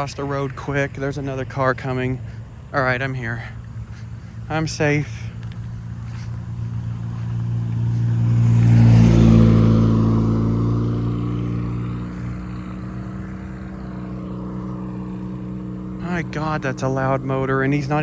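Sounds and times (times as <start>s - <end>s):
car passing close by: 0.0s - 17.3s
low engine hum: 0.0s - 18.0s.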